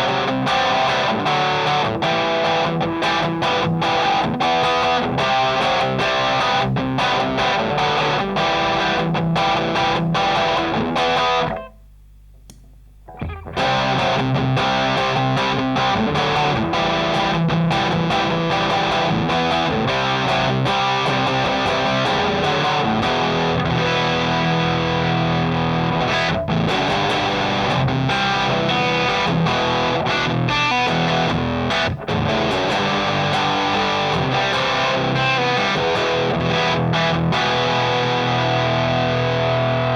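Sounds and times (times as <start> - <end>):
distorted electric guitar: 0.0 - 12.0, 13.0 - 39.9.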